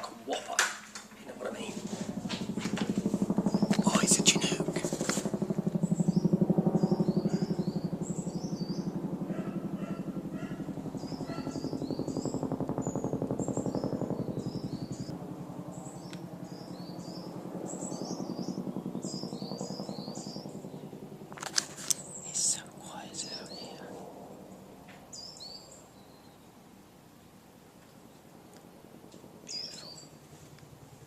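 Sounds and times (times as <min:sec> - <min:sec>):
birds chirping: 0:00.0 - 0:30.4
helicopter rotors beating: 0:00.0 - 0:31.0.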